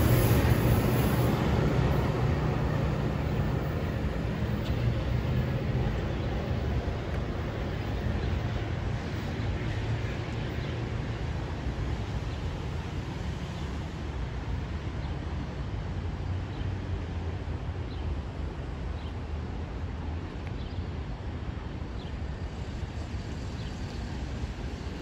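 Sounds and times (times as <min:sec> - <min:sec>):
train running noise: 0:00.0 - 0:20.3, 0:20.9 - 0:25.0
diesel locomotive engine drone: 0:00.0 - 0:25.0.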